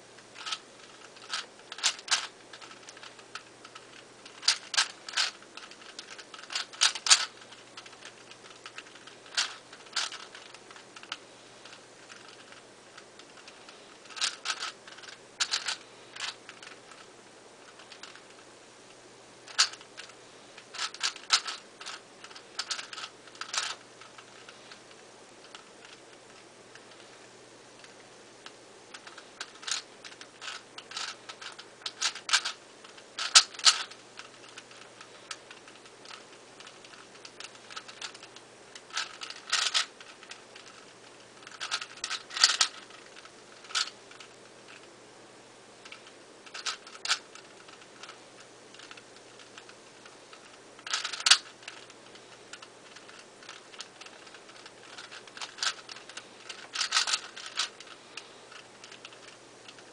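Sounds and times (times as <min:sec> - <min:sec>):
puzzle cube plastic layers clicking: 0:00.4 - 0:18.5, 0:19.5 - 0:44.9, 0:45.8 - 0:59.9.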